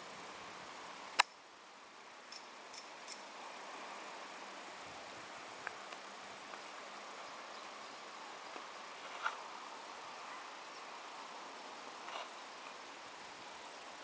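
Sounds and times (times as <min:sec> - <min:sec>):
high-pitched outdoor hiss: 0:00.0 - 0:14.0.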